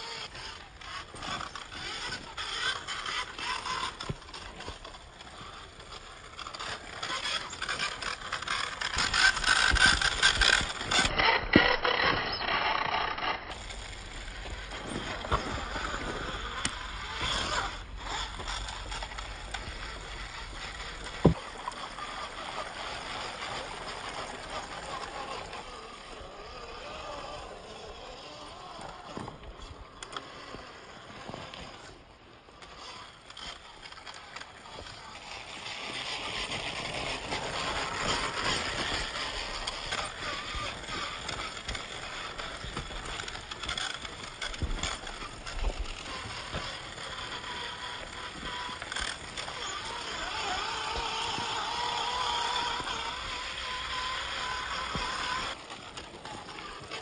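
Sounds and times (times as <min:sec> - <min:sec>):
electric motor and gears running: 0:00.0 - 0:57.0
tyres scraping over rock: 0:00.0 - 0:57.0.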